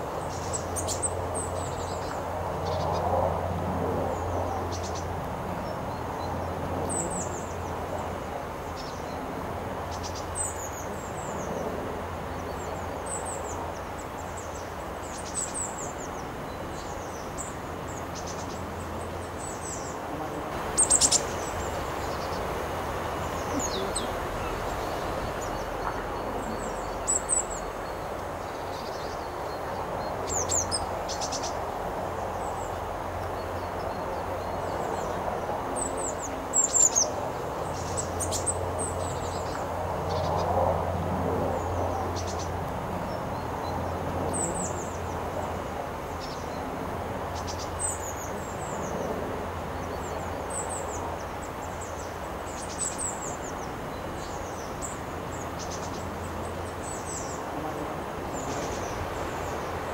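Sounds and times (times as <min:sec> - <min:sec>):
songbirds chirping: 0:00.0 - 0:59.9
steady background noise: 0:00.0 - 0:59.9.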